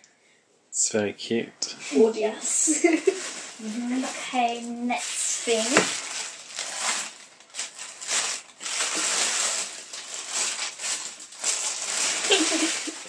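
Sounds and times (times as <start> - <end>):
wrapping paper crinkling: 2.4 - 13.0.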